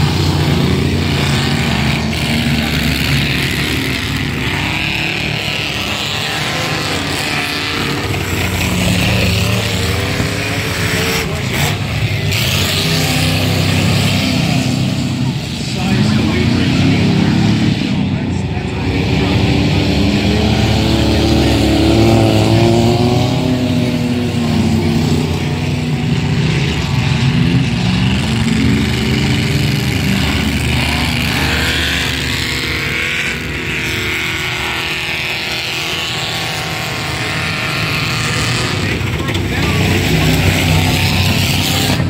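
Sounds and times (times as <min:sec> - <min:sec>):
racing truck engines revving: 0:00.0 - 0:42.0.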